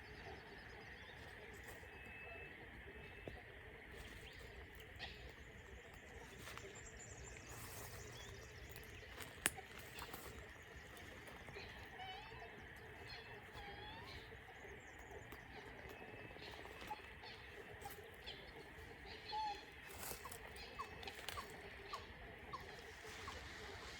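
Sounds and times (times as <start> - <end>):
bird chirps: 0.0 - 23.9.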